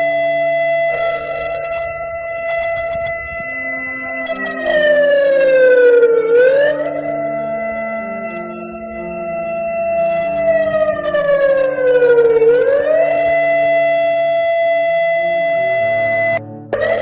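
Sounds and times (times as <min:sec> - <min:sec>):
alarm siren tone: 0:00.0 - 0:17.0
low sustained notes: 0:00.0 - 0:17.0.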